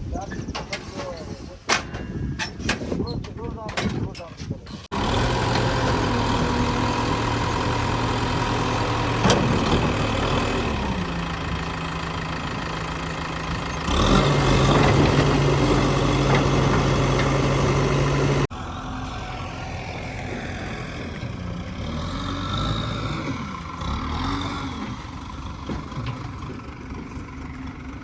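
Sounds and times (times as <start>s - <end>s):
heavy diesel engine running: 4.9s - 28.0s.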